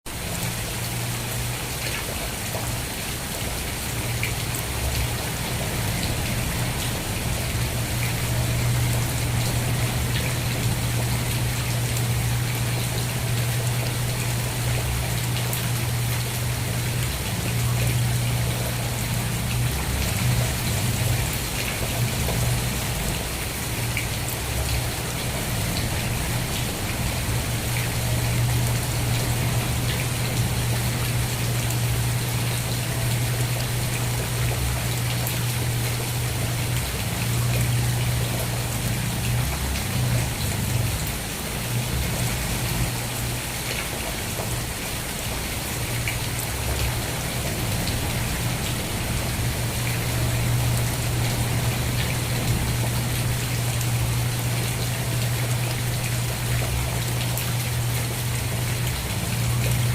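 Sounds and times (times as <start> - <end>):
rain drops tapping on a surface: 0.1 - 59.9.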